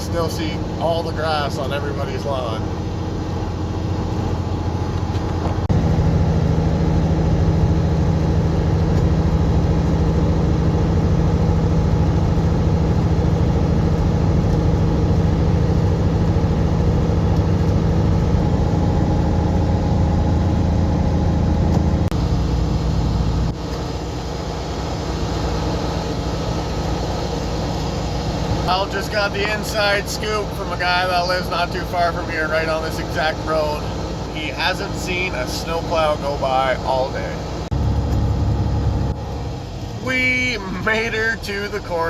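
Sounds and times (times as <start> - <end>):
truck diesel engine driving: 0.0 - 42.0.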